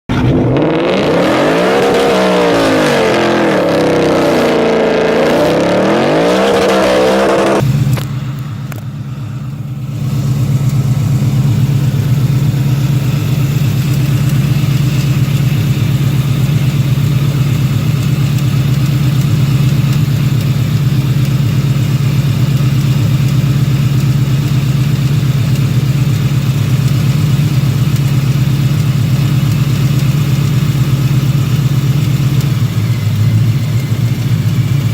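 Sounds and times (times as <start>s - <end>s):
car engine idling: 0.1s - 34.9s
car engine revving: 0.1s - 34.9s.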